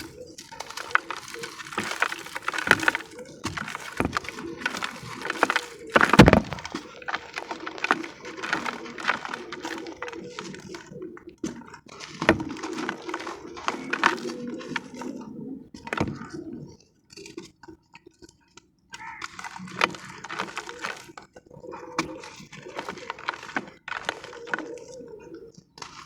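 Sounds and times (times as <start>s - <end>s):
cement discs cracking and crumbling: 0.0s - 16.4s, 19.0s - 26.0s.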